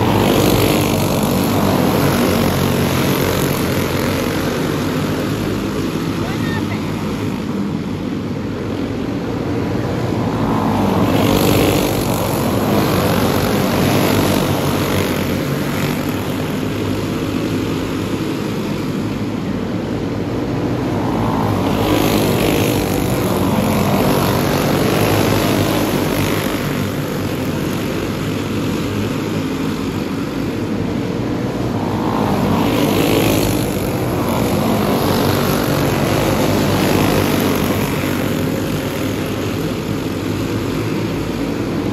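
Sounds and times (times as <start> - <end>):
racing kart engines droning: 0.0 - 41.9.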